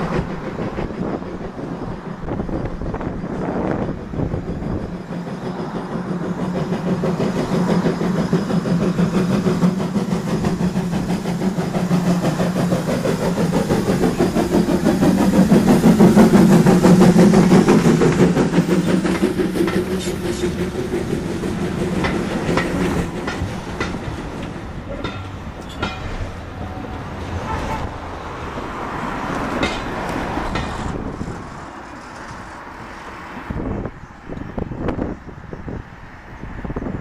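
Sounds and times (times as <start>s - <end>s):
steam locomotive passing: 0.0s - 37.0s
wheels clicking over rail joints: 3.9s - 35.2s.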